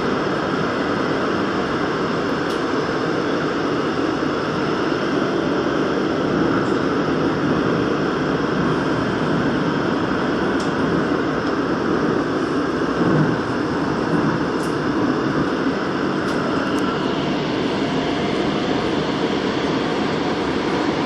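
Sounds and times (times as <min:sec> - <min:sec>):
subway train wheels on rails: 0:00.0 - 0:21.0.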